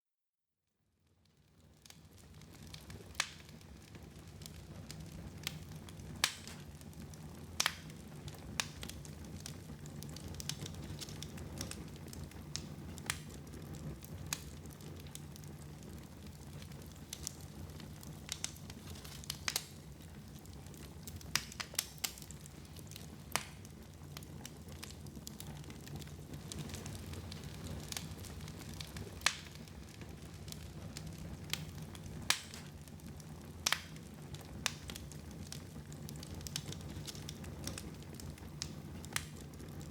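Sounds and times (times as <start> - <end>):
fire crackles and pops: 1.0 - 39.9
fire rumbling and hissing: 1.3 - 39.9.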